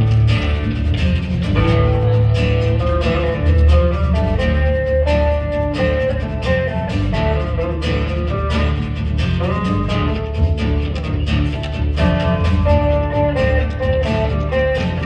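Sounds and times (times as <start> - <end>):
steady bass: 0.0 - 15.0
strummed guitar: 0.0 - 15.0.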